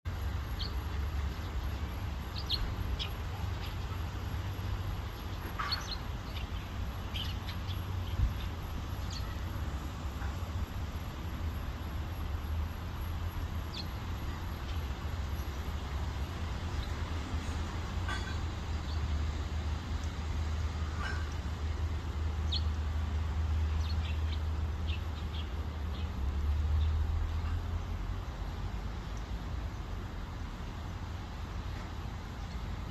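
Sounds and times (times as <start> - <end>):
traffic rumble: 0.1 - 32.9.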